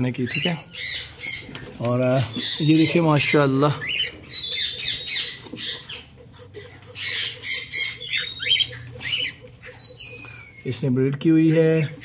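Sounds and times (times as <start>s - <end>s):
cockatiels chirping and squawking: 0.0s - 12.0s.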